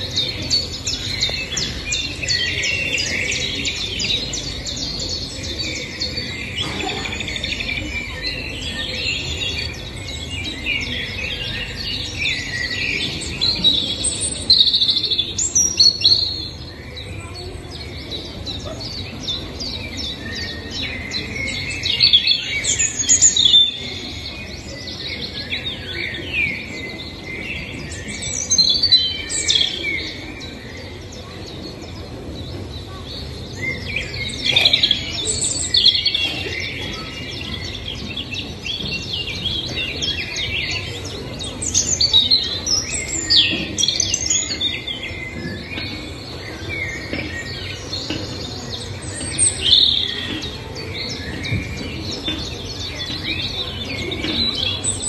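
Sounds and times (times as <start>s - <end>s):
birds chirping and singing: 0.0s - 55.0s.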